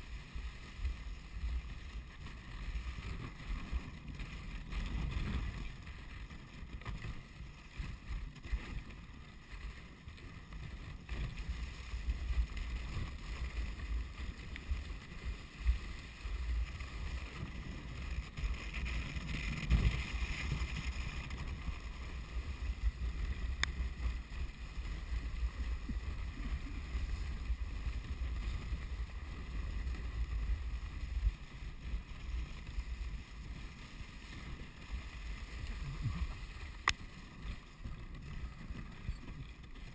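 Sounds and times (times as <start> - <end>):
sled runners scraping over snow: 0.0 - 39.9
wind on microphone: 0.0 - 39.9.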